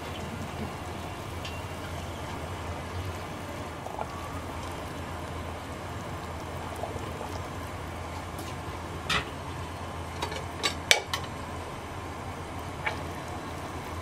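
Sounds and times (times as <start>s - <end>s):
water simmering in a pot: 0.0s - 14.0s.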